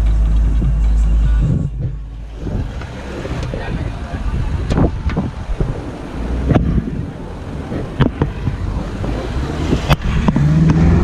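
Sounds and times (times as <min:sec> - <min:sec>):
off-road vehicle engine rumble: 0:00.0 - 0:11.0
wind buffeting microphone: 0:01.4 - 0:11.0.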